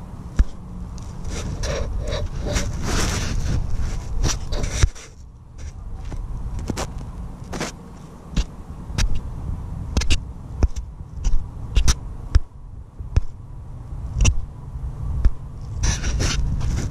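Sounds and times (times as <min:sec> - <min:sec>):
low steady rumble: 0:00.0 - 0:16.9.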